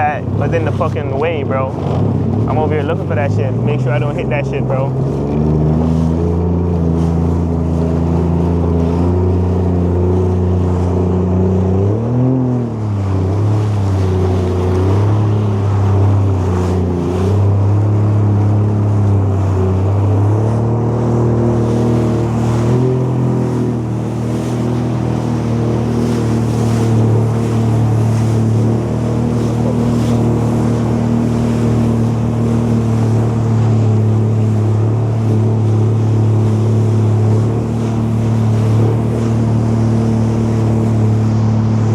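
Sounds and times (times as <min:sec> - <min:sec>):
jet ski engine: 0:00.0 - 0:41.9
rushing water: 0:00.0 - 0:41.9.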